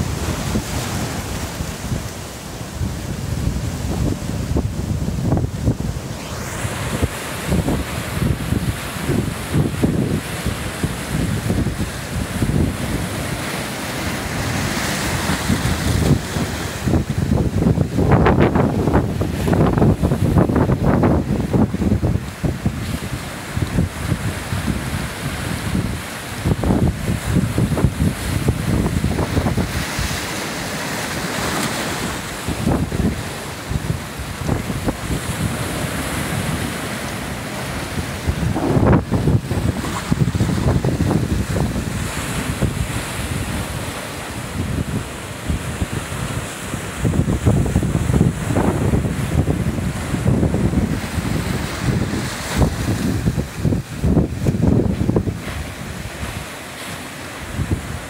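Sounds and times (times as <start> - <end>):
wind buffeting microphone: 0.0 - 56.6, 57.4 - 58.0
surf breaking on rocks: 0.0 - 58.0.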